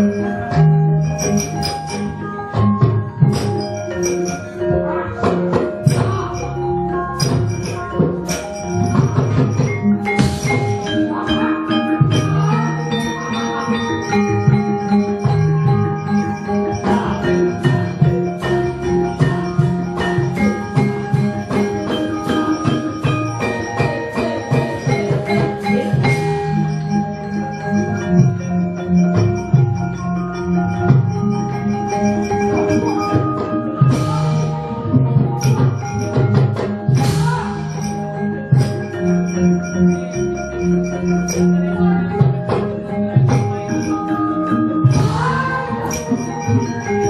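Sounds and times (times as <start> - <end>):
gamelan playing briskly: 0.0 - 47.0
hand drum: 0.0 - 47.0
metallophones ringing: 0.0 - 47.0.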